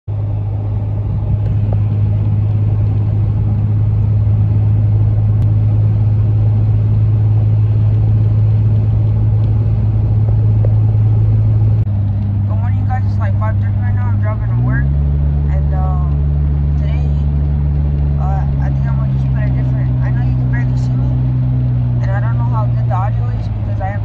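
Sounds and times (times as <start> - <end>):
engine and road drone: 0.0 - 24.0.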